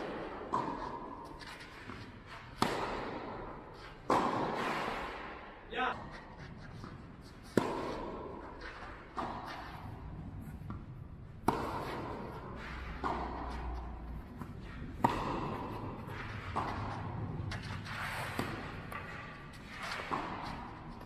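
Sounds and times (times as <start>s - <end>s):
racket hitting tennis ball: 0.0s - 21.0s.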